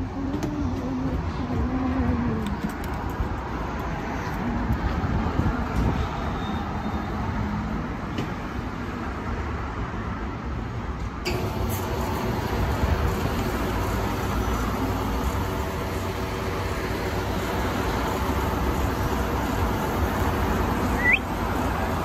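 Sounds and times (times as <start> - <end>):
fuel pump rumble and hiss: 0.0 - 6.2, 10.2 - 22.0.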